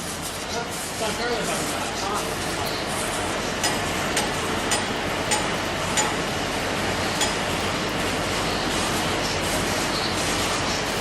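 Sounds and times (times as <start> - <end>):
furnace line running: 0.0 - 11.0.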